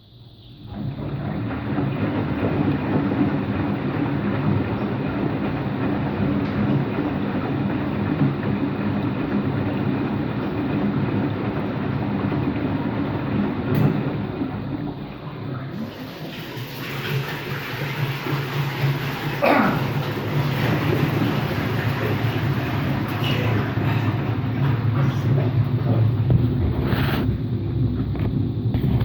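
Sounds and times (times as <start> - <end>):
washing machine drum rumbling: 0.0 - 29.0.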